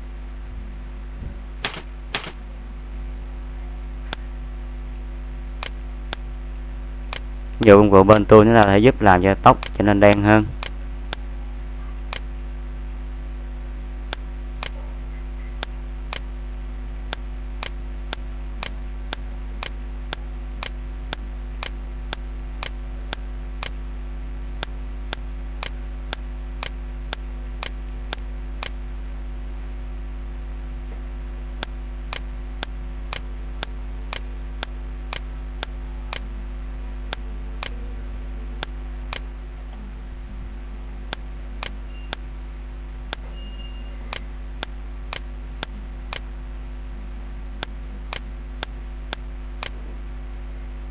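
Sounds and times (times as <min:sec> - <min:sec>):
low electrical hum: 0:00.0 - 0:50.9.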